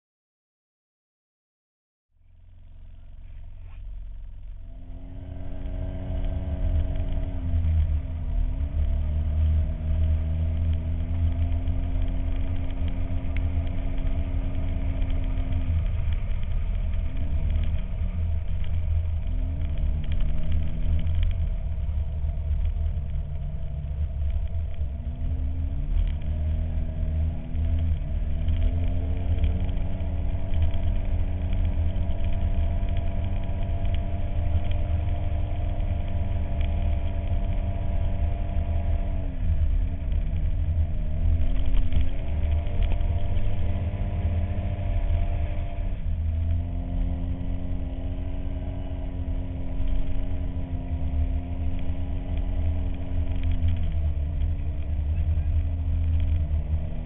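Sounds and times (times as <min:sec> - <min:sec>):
off-road vehicle engine running: 0:02.2 - 0:57.0.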